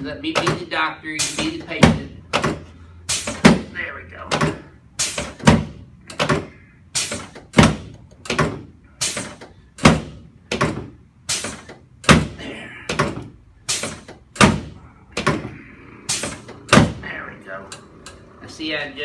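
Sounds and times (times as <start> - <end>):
sharp knocks: 1.3 - 17.0.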